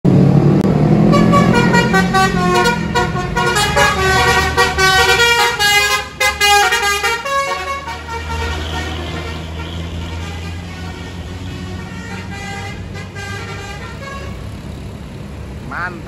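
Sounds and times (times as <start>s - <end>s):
bus musical horn tune: 1.0s - 14.4s.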